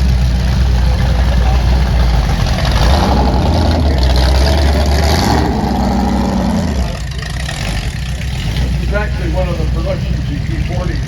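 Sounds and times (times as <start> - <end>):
sports car engine idling: 0.0 - 11.0.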